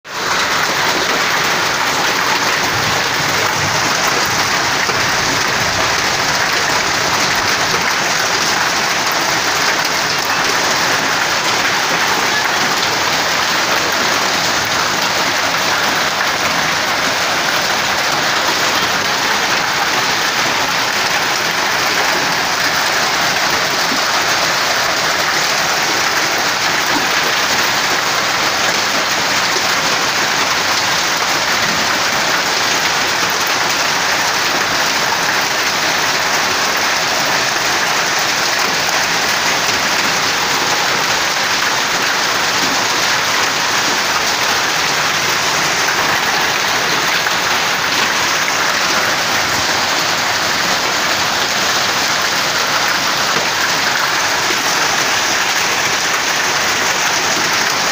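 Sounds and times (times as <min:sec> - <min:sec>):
heavy rain hissing: 0:00.1 - 0:57.9.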